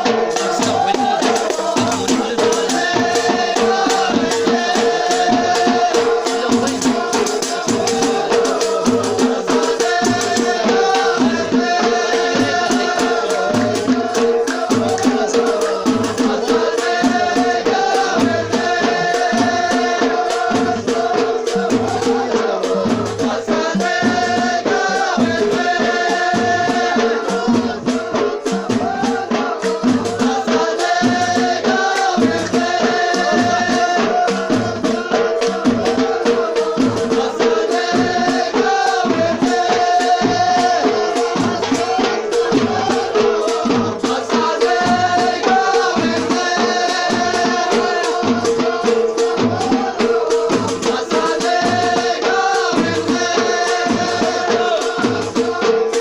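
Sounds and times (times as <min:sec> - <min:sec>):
hand drum beat: 0:00.0 - 0:56.0
rattling percussion: 0:00.0 - 0:56.0
voices singing: 0:00.0 - 0:56.0.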